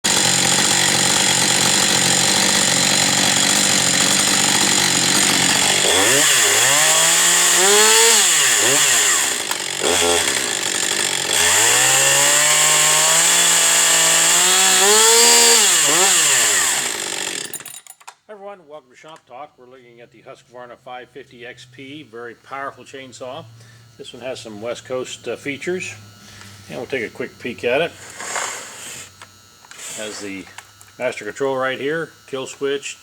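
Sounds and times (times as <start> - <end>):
chainsaw idling and revving: 0.0 - 17.9, 23.2 - 33.0.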